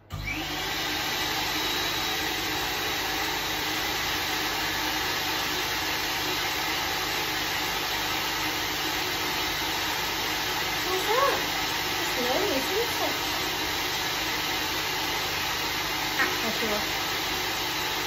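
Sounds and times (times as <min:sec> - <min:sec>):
dryer motor whine: 0:00.0 - 0:18.0.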